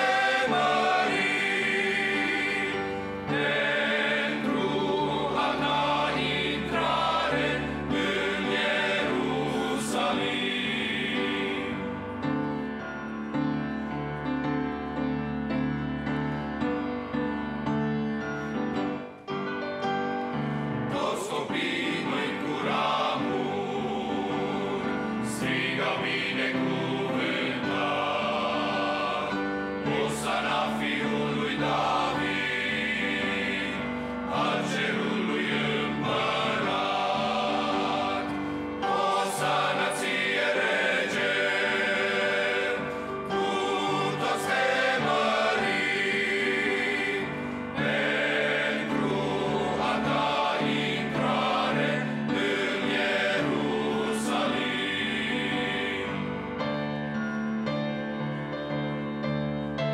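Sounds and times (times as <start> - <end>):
men's choir singing a hymn: 0.0 - 14.3, 20.3 - 57.1.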